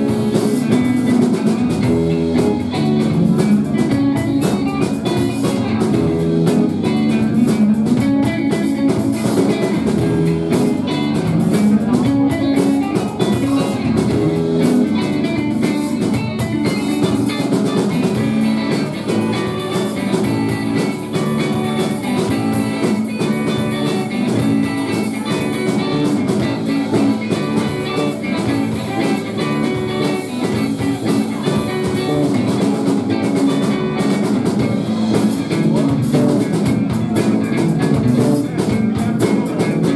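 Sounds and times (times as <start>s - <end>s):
drum kit beat: 0.0s - 39.9s
electric guitars: 0.0s - 39.9s.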